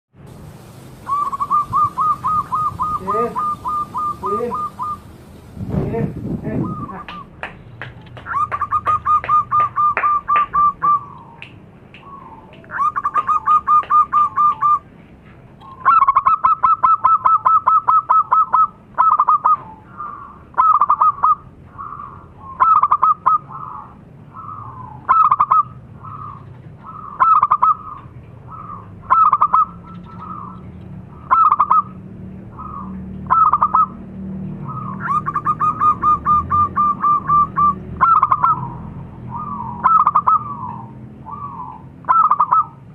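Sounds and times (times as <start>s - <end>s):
dove singing trills: 0.5s - 7.4s, 8.2s - 14.9s, 15.6s - 34.0s, 34.6s - 42.9s.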